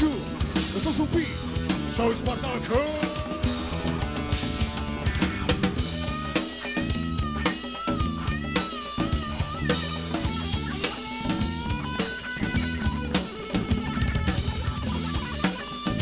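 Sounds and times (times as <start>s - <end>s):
drum kit steady beat: 0.0s - 16.0s
electric guitar lead line: 0.0s - 16.0s.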